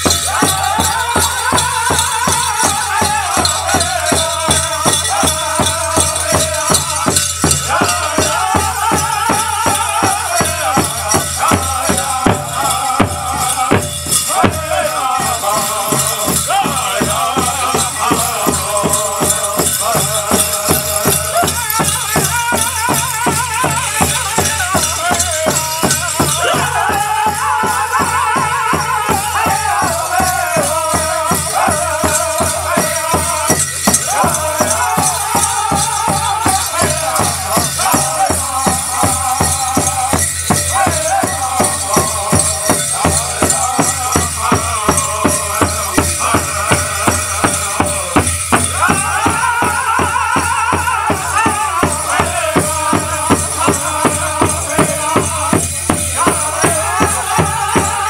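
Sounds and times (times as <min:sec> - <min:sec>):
bells jingling: 0:00.0 - 0:58.0
big drum steady beat: 0:00.0 - 0:58.0
singers chanting high: 0:00.0 - 0:58.0.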